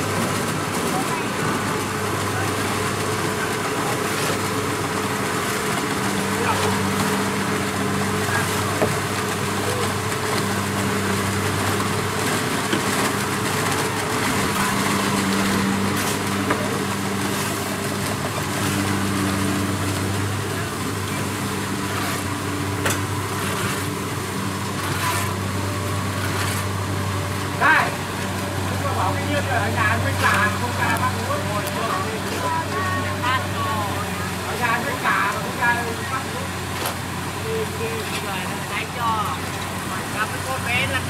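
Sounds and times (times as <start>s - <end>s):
diesel engine droning: 0.0s - 41.0s.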